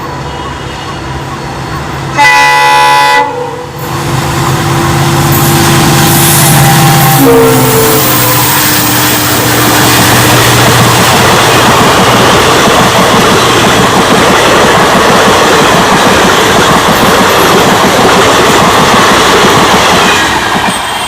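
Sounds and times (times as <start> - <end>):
train rushing past: 0.0 - 21.0.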